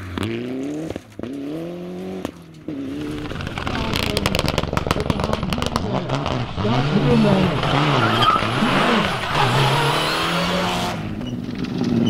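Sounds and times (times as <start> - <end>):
rally car engine revving: 0.0 - 12.0
rapid exhaust crackling: 2.2 - 12.0.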